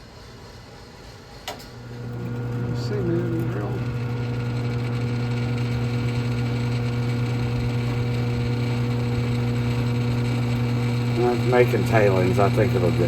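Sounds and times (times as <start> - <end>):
machine electric hum: 1.2 - 13.0.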